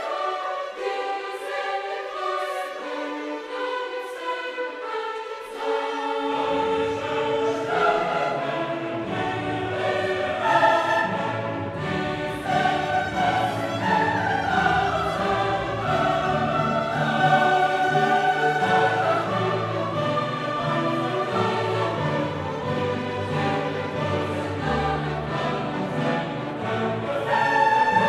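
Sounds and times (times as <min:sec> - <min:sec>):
choir singing: 0:00.0 - 0:28.0
orchestra playing: 0:00.0 - 0:28.0.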